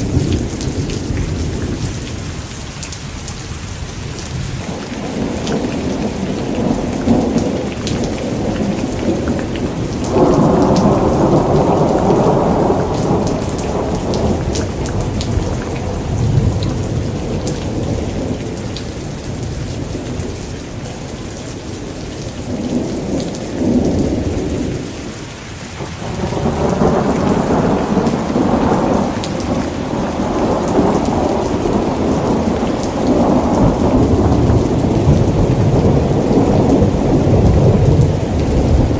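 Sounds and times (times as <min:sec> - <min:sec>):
rolling thunder: 0:00.0 - 0:02.5, 0:04.3 - 0:21.1, 0:25.8 - 0:38.9
steady rainfall: 0:00.0 - 0:38.9.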